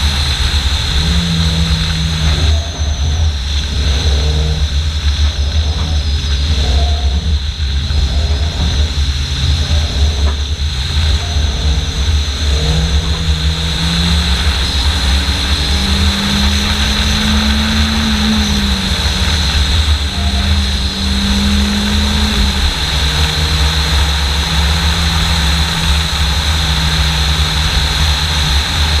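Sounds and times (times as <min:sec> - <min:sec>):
car engine running: 0:00.0 - 0:29.0
wind rumble on microphone: 0:00.0 - 0:29.0.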